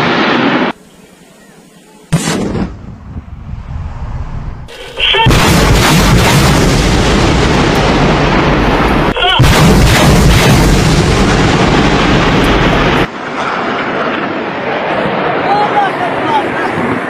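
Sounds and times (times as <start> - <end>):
rockets firing roar: 0.0 - 0.8, 2.1 - 17.0.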